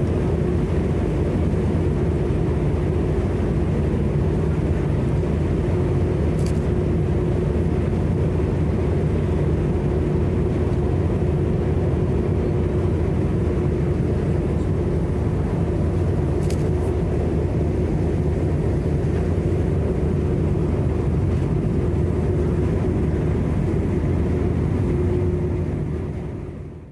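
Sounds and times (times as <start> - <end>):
ship engine drone: 0.0 - 26.9.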